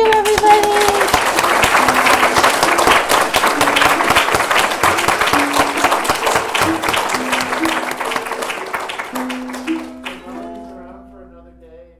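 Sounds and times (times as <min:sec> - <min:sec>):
group of people clapping: 0:00.0 - 0:10.7
plucked-string background music: 0:01.3 - 0:11.9.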